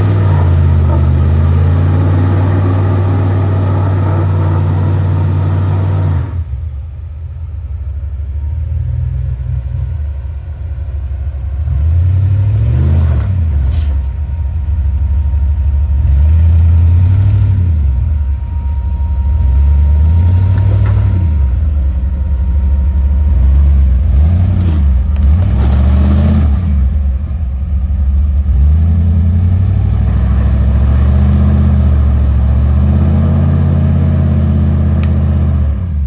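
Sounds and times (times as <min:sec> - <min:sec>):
vehicle engine revving: 0:00.0 - 0:06.9, 0:09.0 - 0:14.5, 0:15.8 - 0:18.4, 0:19.2 - 0:36.0.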